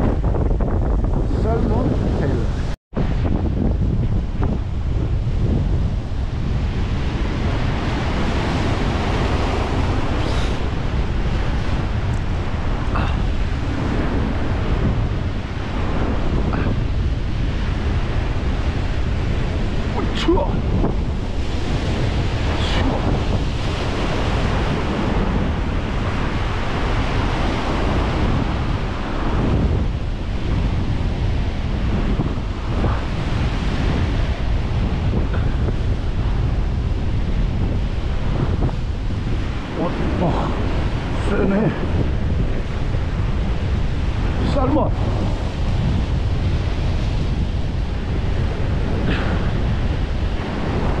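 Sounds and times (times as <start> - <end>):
wind buffeting microphone: 0.0 - 51.0
surf breaking over rocks: 1.1 - 51.0.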